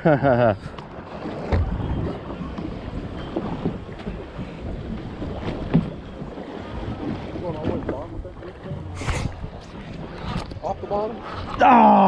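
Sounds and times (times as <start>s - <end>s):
wind buffeting microphone: 1.4s - 11.6s.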